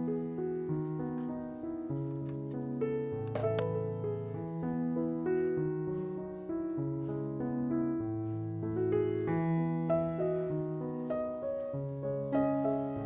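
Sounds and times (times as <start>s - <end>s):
gentle piano piece: 0.0s - 13.0s.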